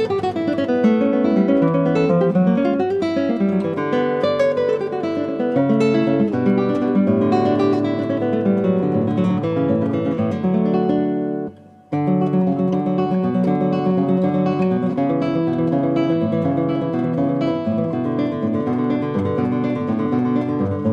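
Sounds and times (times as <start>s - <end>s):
acoustic guitar music: 0.0s - 20.9s.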